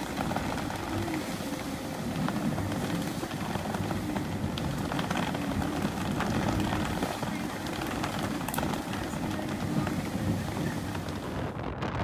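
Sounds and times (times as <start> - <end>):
raindrops ticking on glass: 0.0 - 11.4
strong wind rumbling: 0.0 - 12.0.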